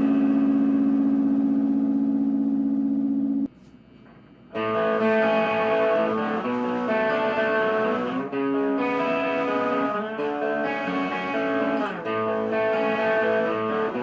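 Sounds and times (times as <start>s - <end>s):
electric guitar chords: 0.0s - 3.4s, 4.6s - 14.0s.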